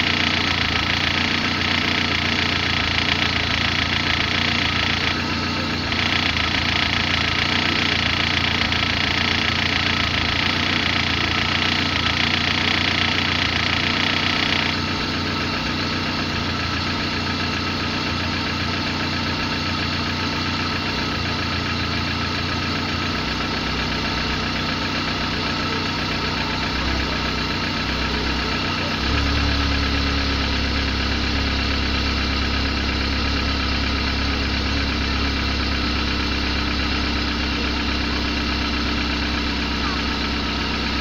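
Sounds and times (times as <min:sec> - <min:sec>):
car engine idling unevenly: 0:00.0 - 0:41.0.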